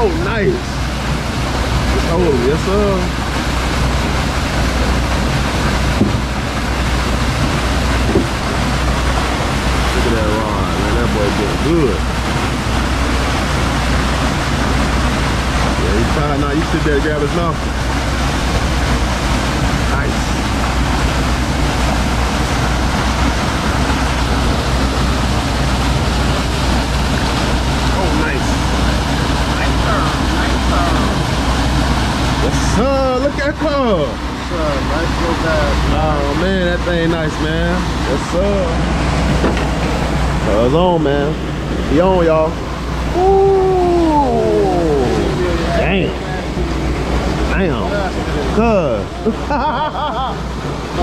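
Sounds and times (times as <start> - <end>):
low rumble: 0.0 - 51.0
low steady hum: 0.0 - 51.0
water gushing from a pipe: 0.0 - 51.0.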